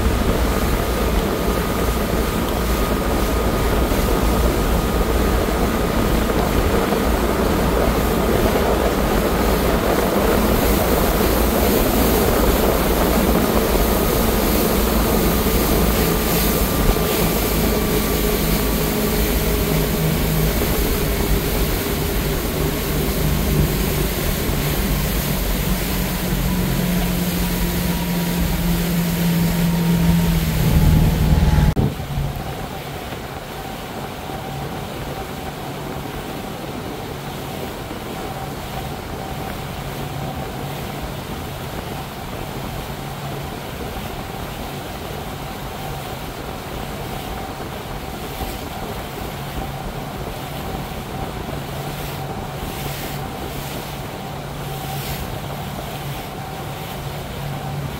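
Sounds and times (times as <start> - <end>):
motorboat engine running: 0.0 - 57.9
rushing water: 0.0 - 57.9
wind: 0.0 - 57.9.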